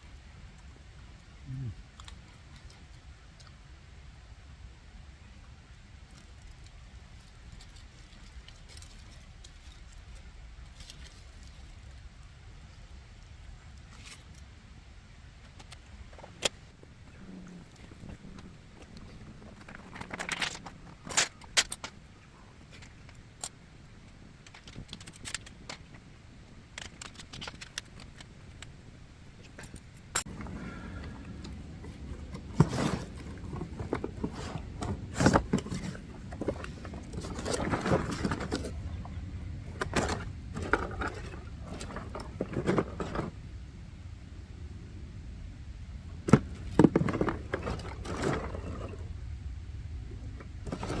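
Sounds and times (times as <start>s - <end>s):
rustling: 6.0s - 43.6s, 46.1s - 51.0s.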